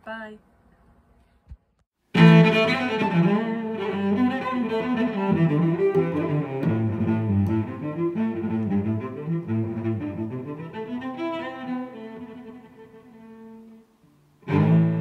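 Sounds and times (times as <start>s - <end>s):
low bowed strings music: 2.1s - 15.0s.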